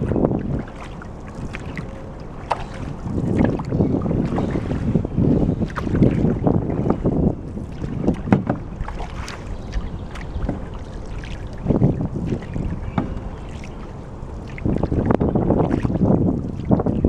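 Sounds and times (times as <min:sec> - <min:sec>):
paddle strokes splashing in water: 0:00.0 - 0:17.0
wind buffeting microphone: 0:00.0 - 0:17.0.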